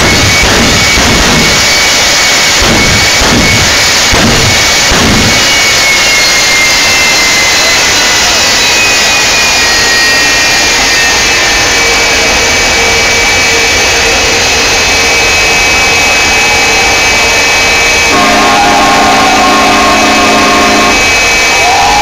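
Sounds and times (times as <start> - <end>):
jet engines roaring with turbine whine: 0.0 - 22.0
steady pitched tone: 0.0 - 22.0.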